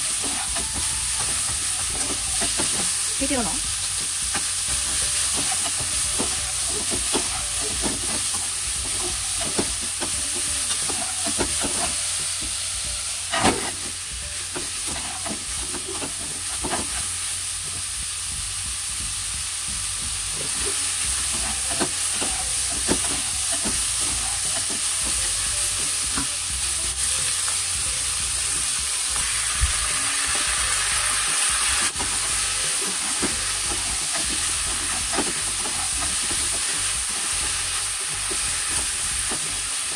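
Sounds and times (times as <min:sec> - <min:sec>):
food sizzling in frying pan: 0:00.0 - 0:39.9.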